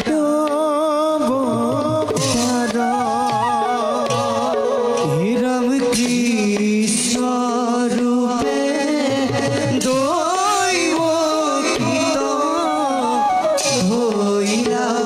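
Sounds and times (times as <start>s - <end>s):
drum strokes: 0.0s - 15.0s
person singing: 0.0s - 15.0s.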